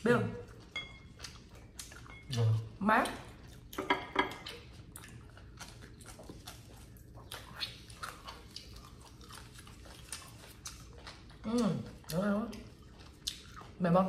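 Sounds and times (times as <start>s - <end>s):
chewing and biting meat: 0.4s - 14.0s.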